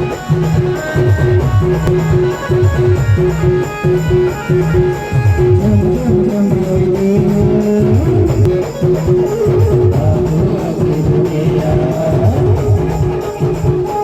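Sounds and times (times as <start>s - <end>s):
moving bass line: 0.0s - 13.9s
plucked-string lead melody: 0.0s - 14.0s
steadily repeating beat: 0.0s - 14.0s.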